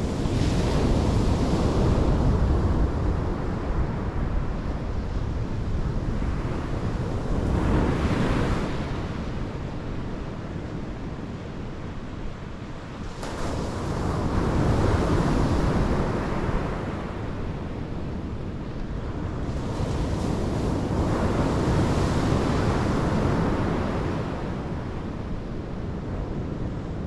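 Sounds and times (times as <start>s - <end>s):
wind rumble on microphone: 0.0s - 27.0s.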